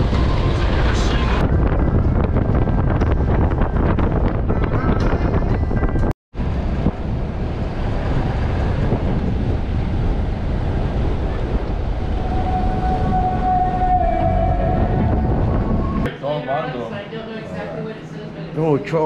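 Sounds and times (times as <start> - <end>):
road rumble: 0.0 - 16.1
wind buffeting microphone: 0.0 - 16.1.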